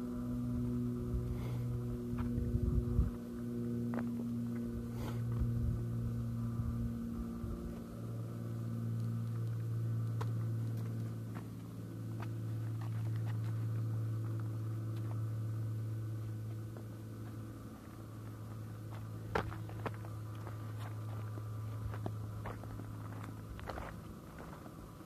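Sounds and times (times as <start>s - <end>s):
faint steady tones: 0.0s - 25.0s
low mechanical hum: 0.0s - 25.0s.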